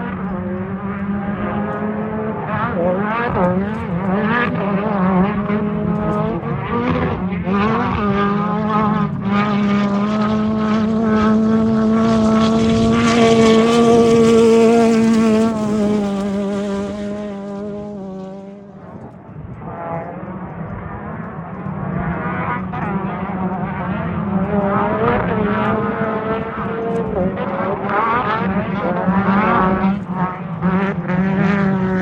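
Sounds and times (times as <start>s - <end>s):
race vehicle engine passing by: 0.0s - 32.0s.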